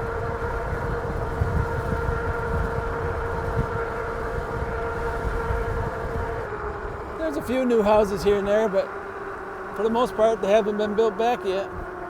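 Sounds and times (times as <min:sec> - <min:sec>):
wind rumbling on microphone: 0:00.0 - 0:10.4.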